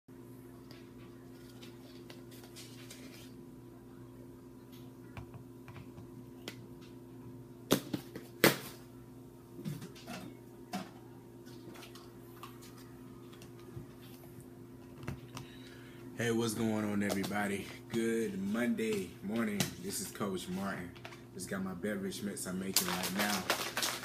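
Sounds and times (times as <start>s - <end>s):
steady low hum: 0.1s - 24.0s.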